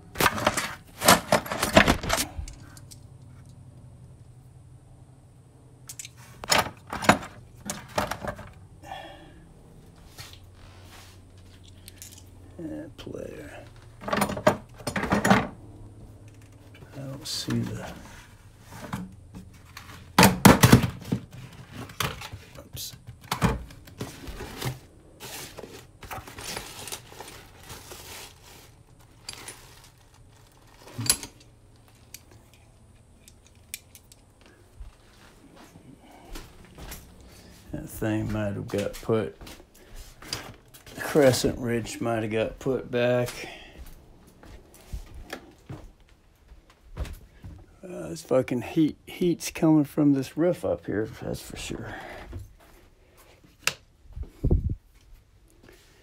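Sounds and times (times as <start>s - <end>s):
low steady hum: 0.0s - 56.0s
rustling and scraping of tools: 0.1s - 3.6s, 5.9s - 9.2s, 9.8s - 47.8s, 50.6s - 56.0s.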